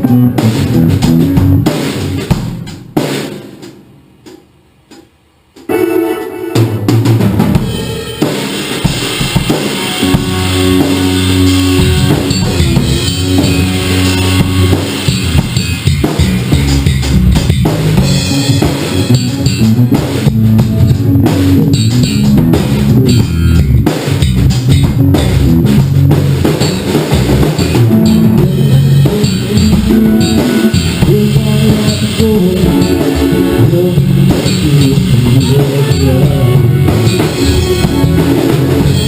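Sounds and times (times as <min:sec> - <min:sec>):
bass drum: 0:00.0 - 0:03.7, 0:08.8 - 0:39.0
electric guitar: 0:05.7 - 0:39.0.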